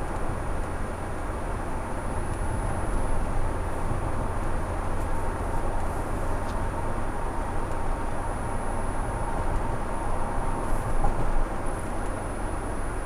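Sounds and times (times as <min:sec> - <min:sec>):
car road noise from cabin: 0:00.0 - 0:13.0.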